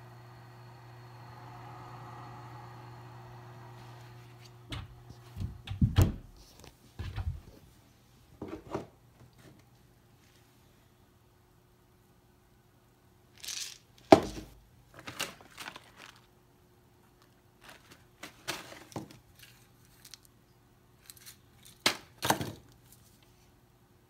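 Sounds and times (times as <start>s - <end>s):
faint steady hum: 0.0s - 21.8s.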